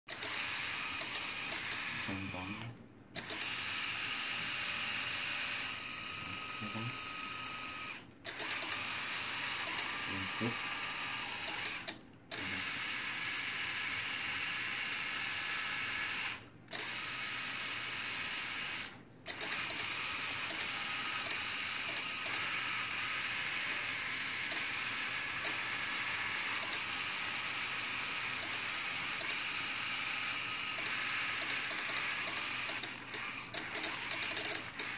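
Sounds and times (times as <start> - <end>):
high motor and gear whine: 0.2 - 2.7, 3.4 - 34.9.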